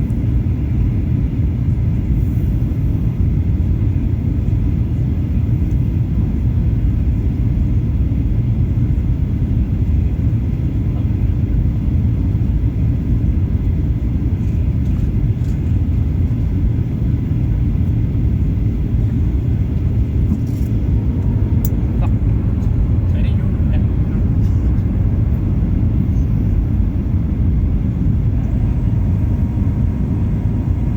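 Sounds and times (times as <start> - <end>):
airplane cabin engine rumble: 0.0 - 30.9.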